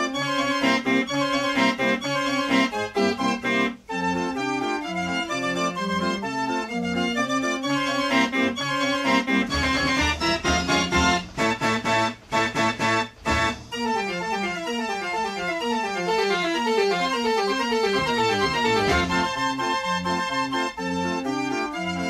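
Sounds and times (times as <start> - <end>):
organ music fast runs: 0.0 - 22.0.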